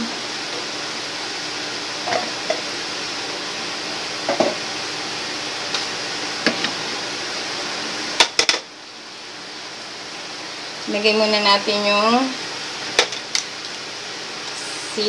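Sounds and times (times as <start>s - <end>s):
pot simmering hiss: 0.0s - 15.0s.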